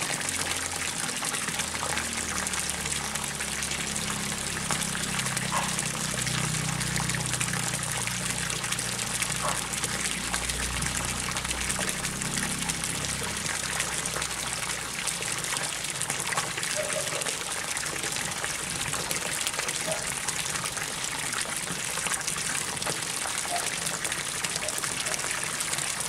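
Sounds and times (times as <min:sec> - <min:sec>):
water pouring into a pond: 0:00.0 - 0:26.0.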